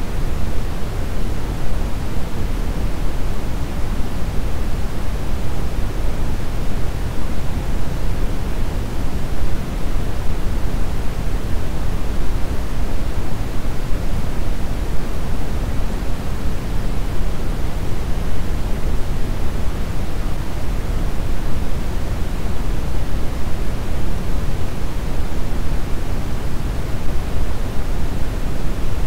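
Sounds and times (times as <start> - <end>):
brown noise hiss: 0.0 - 29.0.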